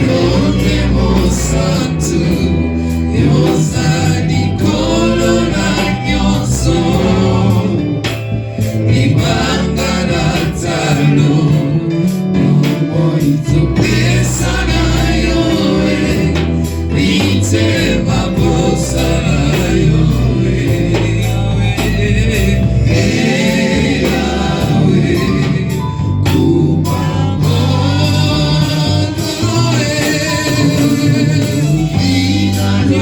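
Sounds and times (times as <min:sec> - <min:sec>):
band with bass and drums: 0:00.0 - 0:33.0
group of voices singing: 0:00.0 - 0:33.0.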